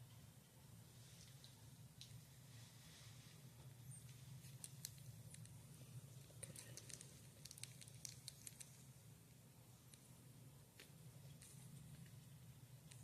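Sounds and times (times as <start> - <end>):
low steady hum: 0.0 - 13.0
soft clicks and rustles: 0.9 - 13.0.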